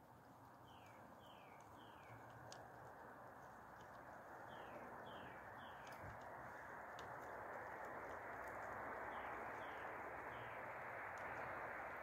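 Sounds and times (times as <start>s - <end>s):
faint clicks: 0.1s - 12.0s.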